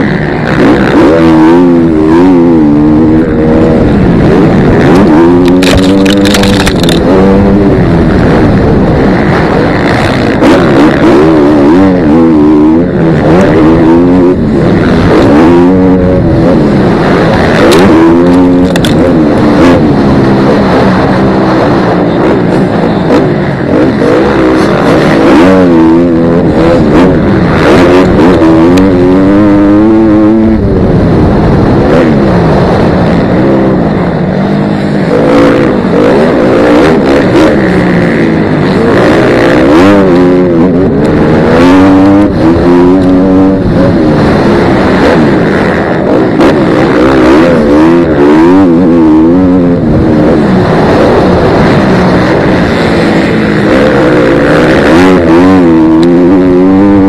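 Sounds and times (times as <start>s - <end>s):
dirt bike engine revving: 0.0s - 57.0s
wind noise on microphone: 0.0s - 57.0s.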